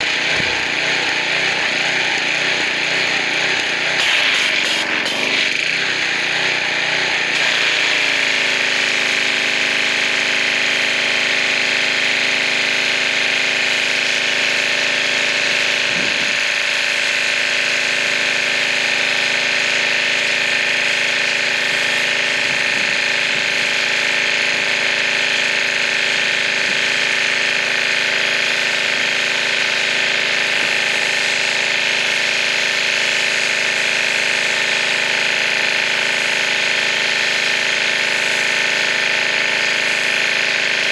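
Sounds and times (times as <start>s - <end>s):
pressure washer motor hum: 0.0s - 40.9s.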